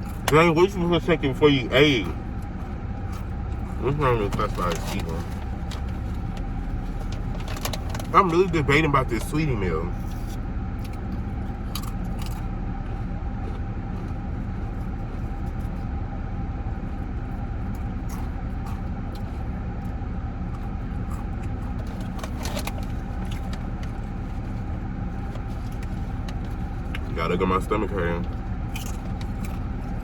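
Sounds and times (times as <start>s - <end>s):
car engine running: 0.0s - 30.0s
road rumble: 0.0s - 30.0s.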